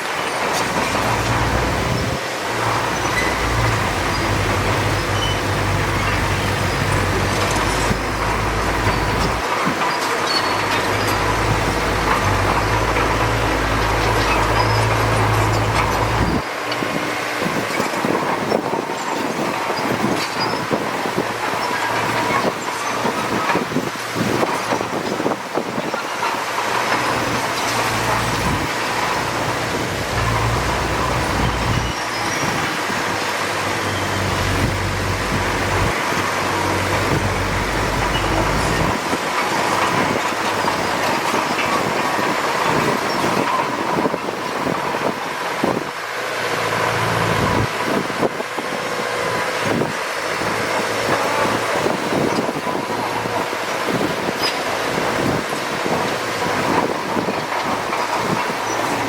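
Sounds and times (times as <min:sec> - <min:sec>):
bulldozer diesel engine: 0:00.0 - 0:59.0
steel tracks clanking: 0:00.0 - 0:59.0.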